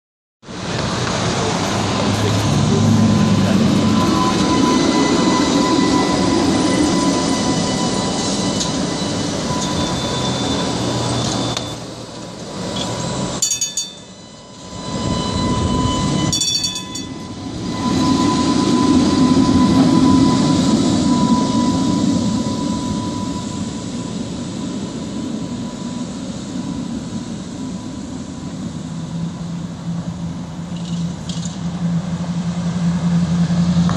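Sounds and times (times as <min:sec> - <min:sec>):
streetcar whine and rumble: 0:00.4 - 0:33.9.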